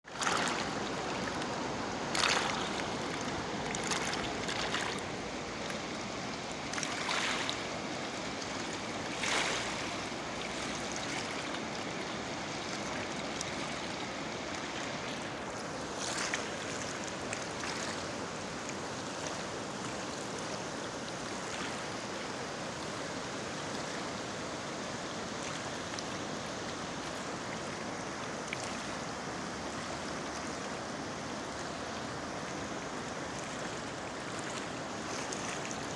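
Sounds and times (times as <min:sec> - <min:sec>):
fast-flowing river water rushing: 0:00.0 - 0:35.9
water splashing surges: 0:00.0 - 0:35.9.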